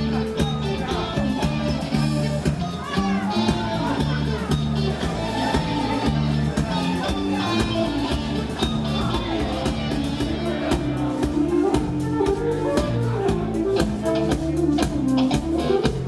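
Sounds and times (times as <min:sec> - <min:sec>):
live folk dance band playing: 0:00.0 - 0:16.0.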